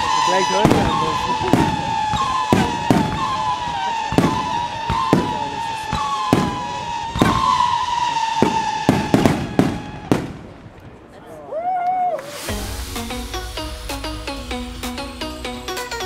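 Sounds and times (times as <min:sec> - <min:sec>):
descending high whistle: 0:00.0 - 0:10.1, 0:11.5 - 0:16.0
fireworks banging: 0:00.0 - 0:11.1, 0:12.2 - 0:16.0.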